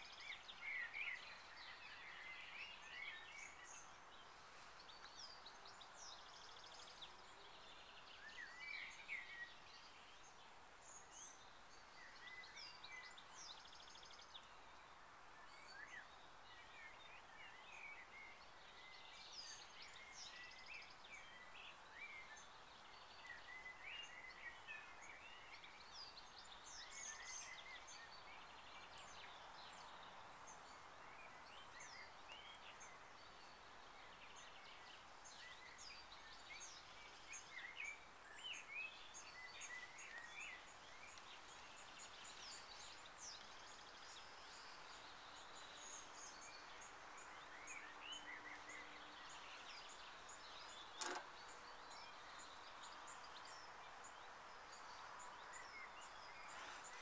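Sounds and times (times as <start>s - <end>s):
outdoor background hiss: 0.0s - 57.0s
small birds chirping: 0.0s - 57.0s.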